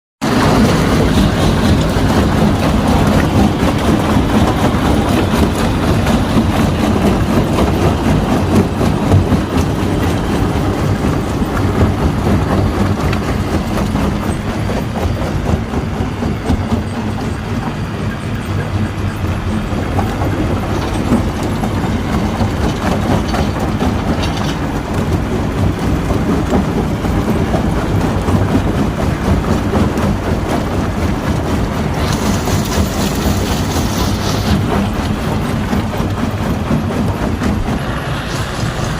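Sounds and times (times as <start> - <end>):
rattling clatter: 0.2 - 38.9
stone crusher rumbling: 0.2 - 38.9.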